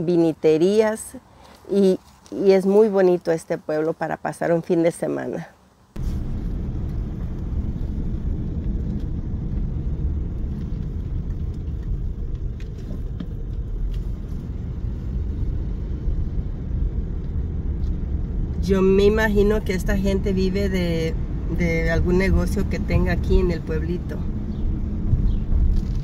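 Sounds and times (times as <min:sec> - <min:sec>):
car engine and tyre rumble: 0:00.0 - 0:04.0, 0:05.6 - 0:26.0.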